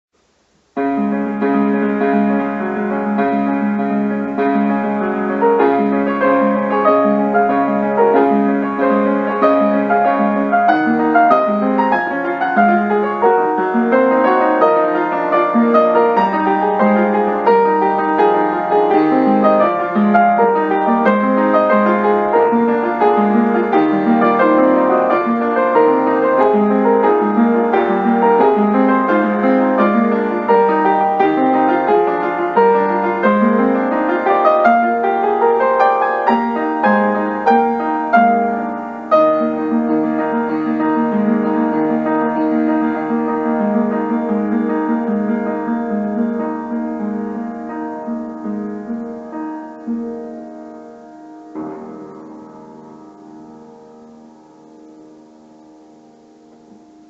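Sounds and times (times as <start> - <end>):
solo piano playing: 0.2 - 57.0.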